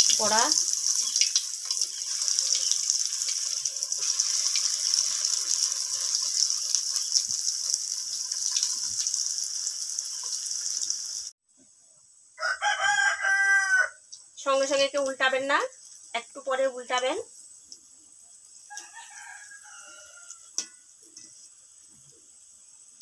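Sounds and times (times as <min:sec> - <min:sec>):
fritters sizzling in oil: 0:00.0 - 0:11.4, 0:12.4 - 0:23.0.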